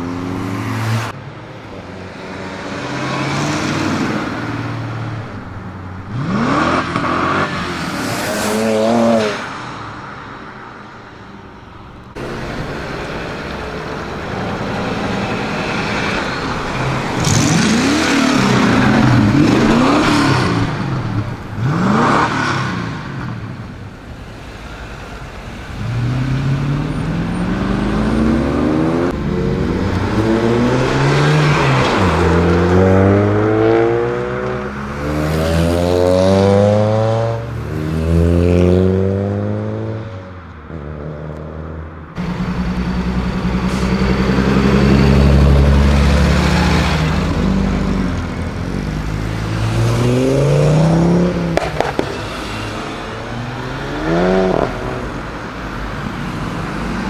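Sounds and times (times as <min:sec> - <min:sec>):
cars accelerating: 0:02.0 - 0:09.9, 0:12.1 - 0:23.8, 0:25.5 - 0:57.0.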